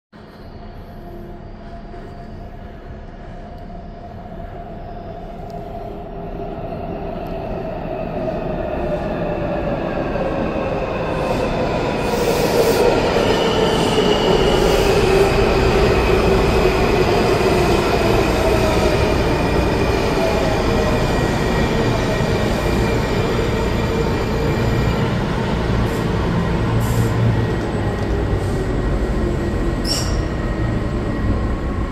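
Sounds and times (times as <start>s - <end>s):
train pulling into station: 0.2s - 31.9s.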